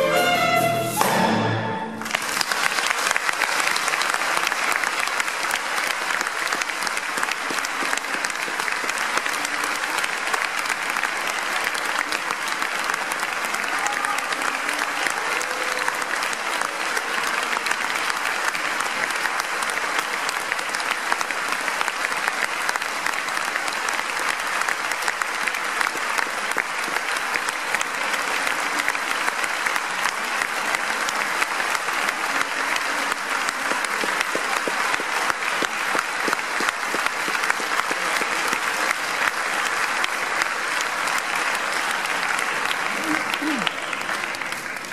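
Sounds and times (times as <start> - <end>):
audience applauding: 1.8 - 44.9.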